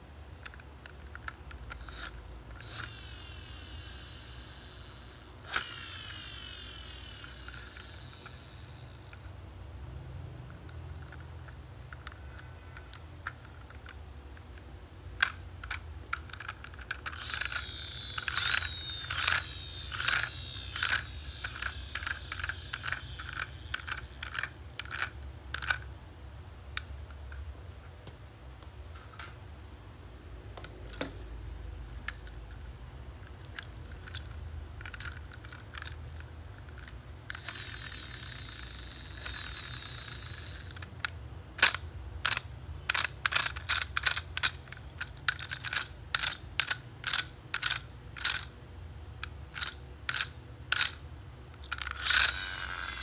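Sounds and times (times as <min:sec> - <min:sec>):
low steady hum: 0:00.0 - 0:53.0
plastic toy vehicles clicking: 0:00.4 - 0:09.3, 0:10.5 - 0:25.9, 0:31.9 - 0:48.6, 0:49.2 - 0:53.0.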